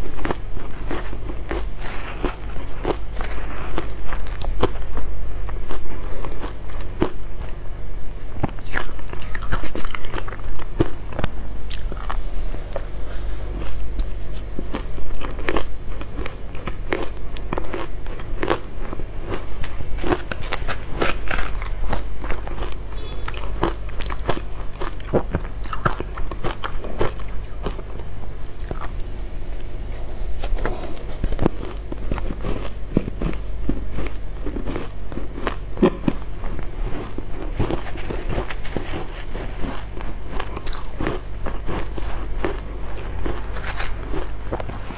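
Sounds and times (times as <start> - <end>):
crunching and chewing ice: 0.0 - 44.9
steady low hum: 0.0 - 44.9.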